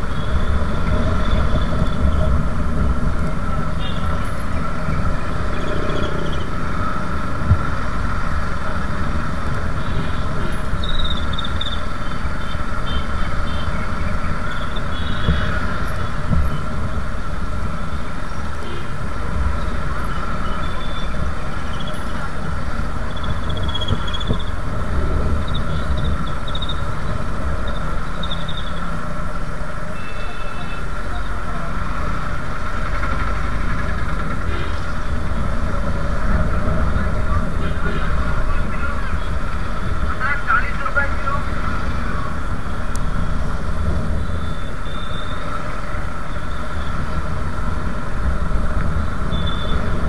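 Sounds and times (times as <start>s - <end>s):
traffic rumble: 0.0s - 50.0s.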